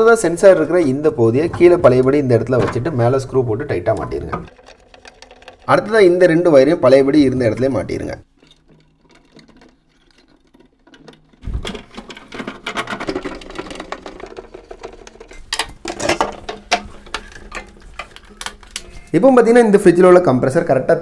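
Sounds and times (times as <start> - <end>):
plastic scraping: 0.4 - 6.5, 7.5 - 19.2.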